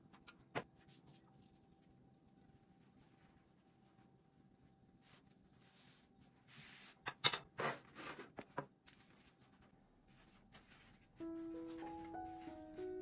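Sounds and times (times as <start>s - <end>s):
phyllo dough rustling and crinkling: 0.0s - 13.0s.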